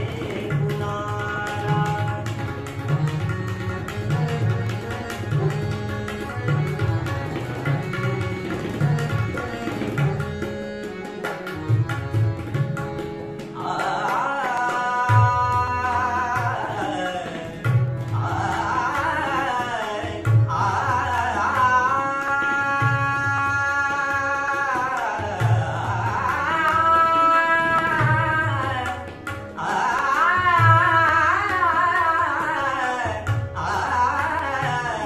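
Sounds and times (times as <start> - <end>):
harmonium: 0.0 - 35.0
young man singing: 0.0 - 35.0.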